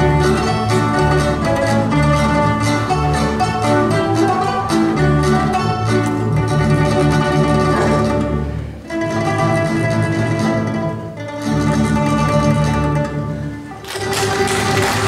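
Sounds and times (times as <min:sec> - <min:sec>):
plucked-string folk band playing: 0:00.0 - 0:15.0.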